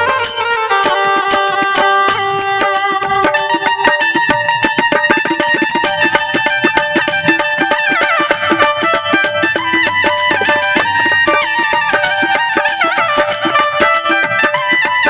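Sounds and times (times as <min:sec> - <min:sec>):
bending lead melody: 0:00.0 - 0:15.0
fast drum rhythm: 0:00.0 - 0:15.0.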